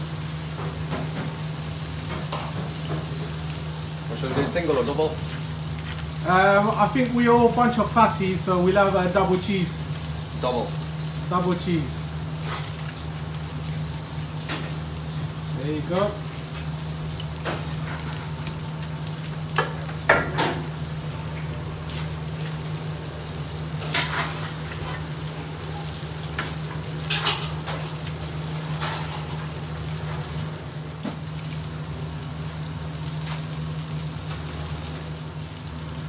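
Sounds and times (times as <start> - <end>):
burger patties sizzling: 0.0 - 36.0.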